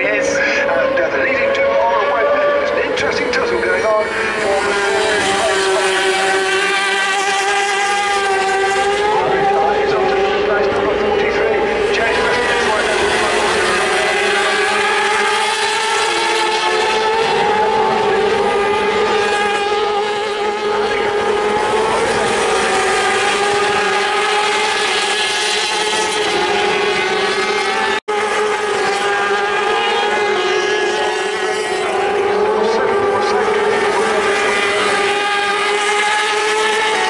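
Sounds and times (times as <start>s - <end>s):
racing motorcycle engines: 0.0s - 37.0s.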